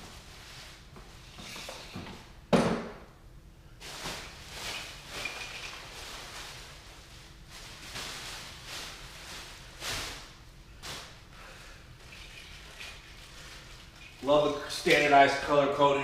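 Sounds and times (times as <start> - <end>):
objects rustling and knocking: 0.0 - 3.1, 3.8 - 15.2.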